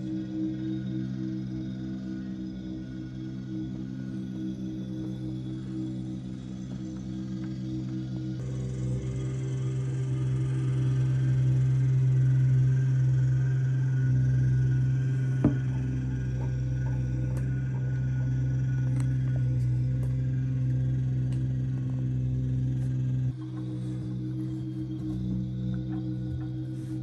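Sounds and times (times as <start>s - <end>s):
track loader engine running: 4.6s - 27.0s.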